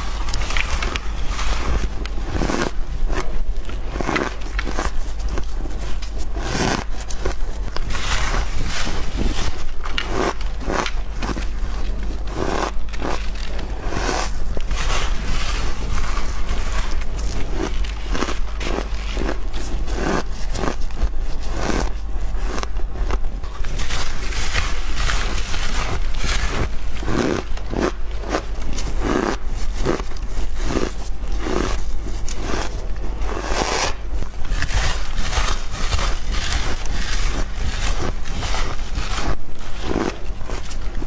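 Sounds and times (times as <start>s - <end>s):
ice being crunched and chewed: 0.0s - 41.0s
steady low hum: 0.0s - 41.0s.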